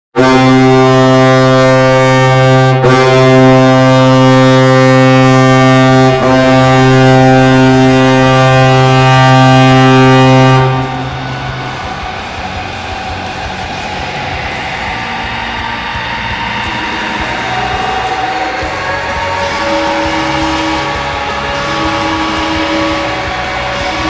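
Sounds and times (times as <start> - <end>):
goal horn blaring: 0.2 - 15.7, 16.3 - 24.0
noisy background: 0.2 - 24.0.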